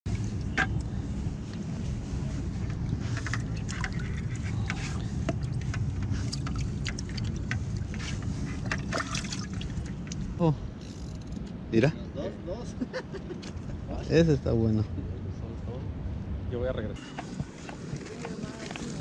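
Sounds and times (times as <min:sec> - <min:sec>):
wind rumble on microphone: 0:00.1 - 0:11.7, 0:14.9 - 0:19.0.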